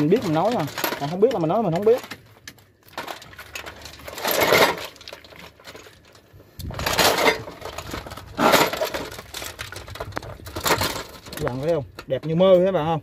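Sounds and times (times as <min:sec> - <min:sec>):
metal gears clinking in basin: 0:00.0 - 0:02.2, 0:02.9 - 0:12.8.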